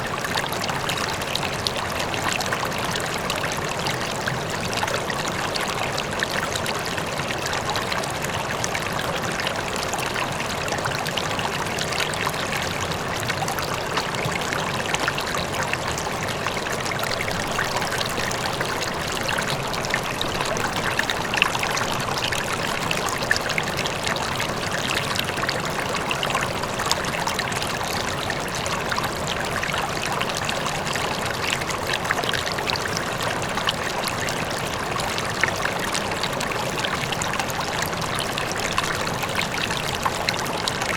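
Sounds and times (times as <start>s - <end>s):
faint distant waterfall: 0.0s - 40.9s
river flowing over stones: 0.0s - 40.9s.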